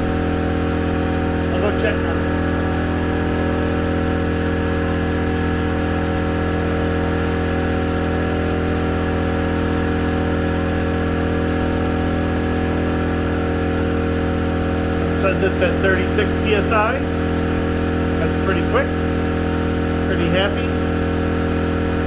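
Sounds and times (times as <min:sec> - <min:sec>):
air compressor humming: 0:00.0 - 0:22.0.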